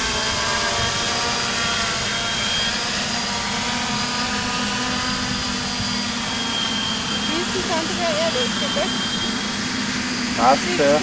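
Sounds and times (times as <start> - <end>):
quadcopter propellers buzzing: 0.0 - 11.0.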